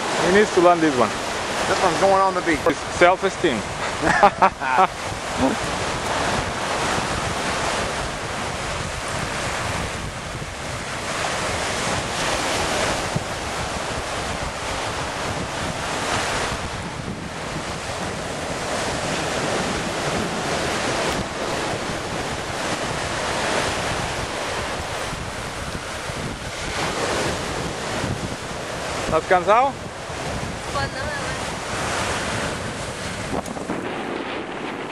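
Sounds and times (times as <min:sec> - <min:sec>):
ocean surf breaking on beach: 0:00.0 - 0:34.9
wind buffeting microphone: 0:00.0 - 0:34.9.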